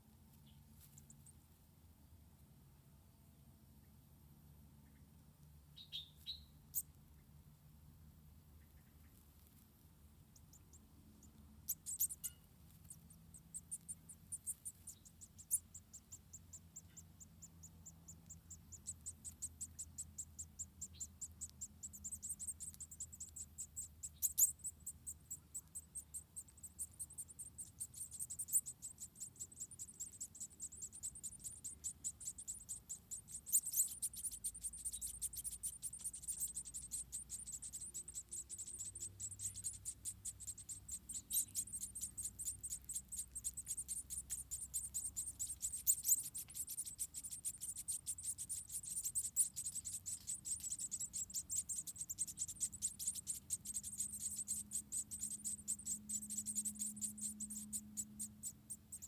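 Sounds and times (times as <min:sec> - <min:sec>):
faint low hum: 0:00.0 - 0:59.0
insects chirping: 0:10.3 - 0:59.0.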